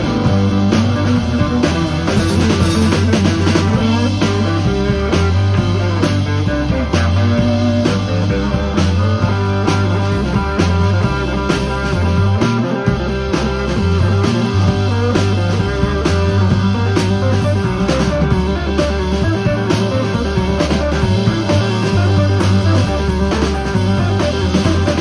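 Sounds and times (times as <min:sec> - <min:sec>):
deep bass line: 0:00.0 - 0:25.0
drum kit hits: 0:00.0 - 0:25.0
electric guitar: 0:00.0 - 0:25.0.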